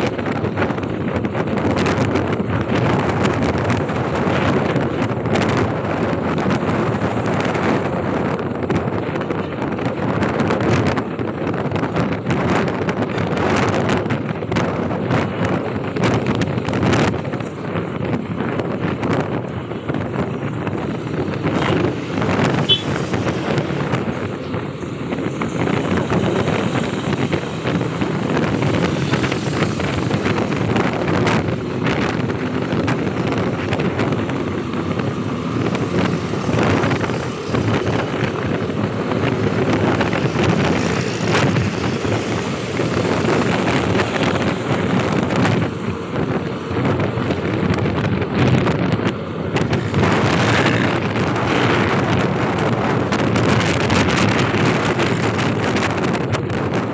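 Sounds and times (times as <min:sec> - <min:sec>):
motorcycle engine: 0:00.0 - 0:56.9
road noise: 0:00.0 - 0:56.9
wind rushing over microphone: 0:00.0 - 0:56.9.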